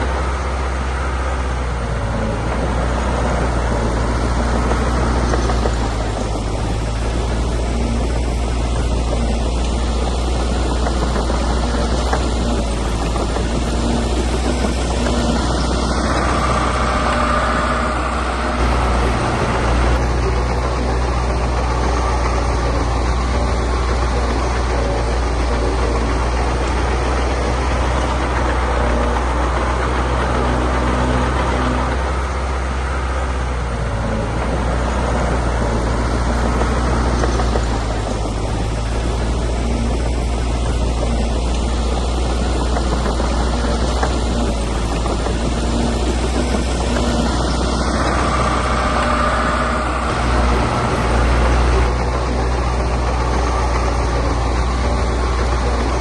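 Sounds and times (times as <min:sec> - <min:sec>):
heavy diesel machinery running: 0:00.0 - 0:56.0
mechanical clatter: 0:01.6 - 0:56.0.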